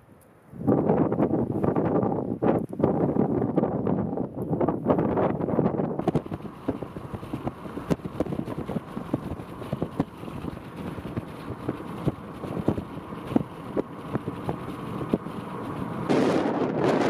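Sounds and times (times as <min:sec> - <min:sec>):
wind rushing over microphone: 0:00.5 - 0:17.0.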